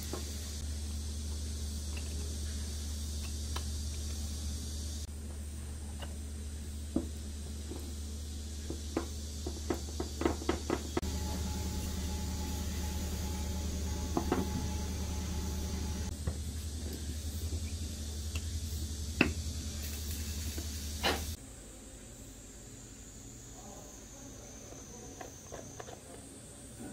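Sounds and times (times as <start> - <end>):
steady low hum: 0.0 - 24.6.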